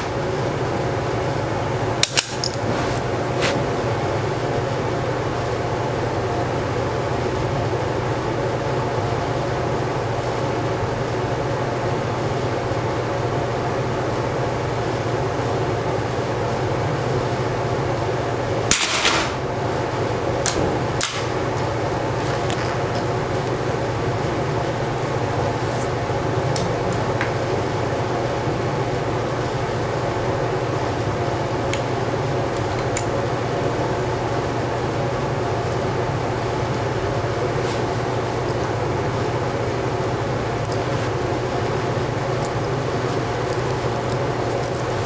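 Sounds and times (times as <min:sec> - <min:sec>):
ventilation fans humming: 0:00.0 - 0:45.0.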